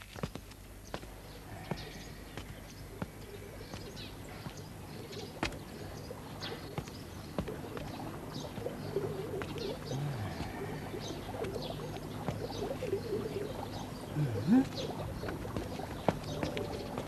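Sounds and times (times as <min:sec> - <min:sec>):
steady low hum: 0:00.0 - 0:17.0
birds chirping and calling: 0:00.8 - 0:17.0.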